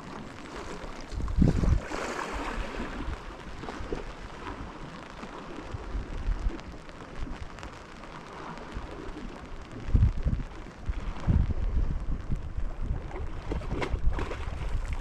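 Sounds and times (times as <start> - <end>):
steady rain falling: 0.0 - 12.9
wind buffeting microphone: 0.0 - 15.0.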